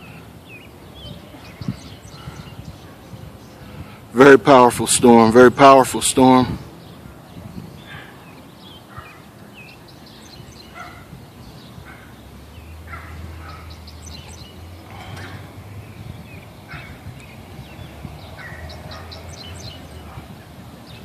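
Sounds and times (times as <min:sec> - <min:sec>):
birds calling and chirping: 0:00.0 - 0:21.0.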